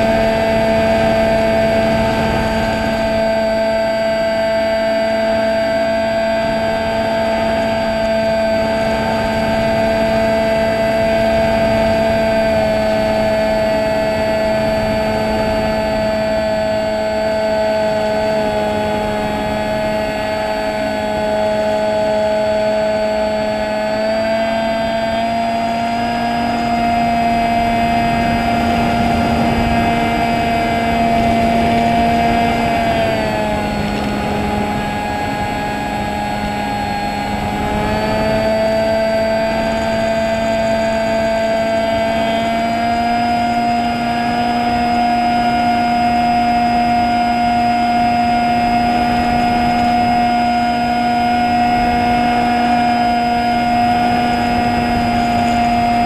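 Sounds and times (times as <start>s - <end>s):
drone motor and propeller whine: 0.0s - 56.0s.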